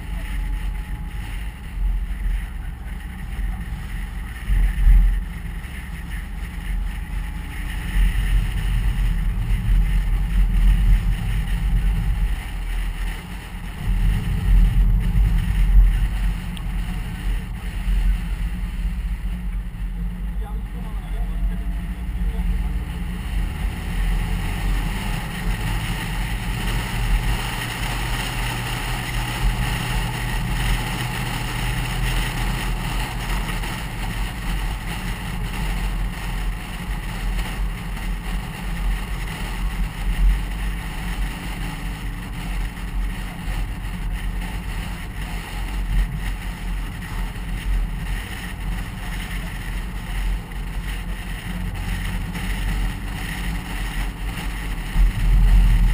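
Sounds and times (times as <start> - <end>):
car engine drone: 0.0 - 55.9
wind noise: 0.0 - 55.9.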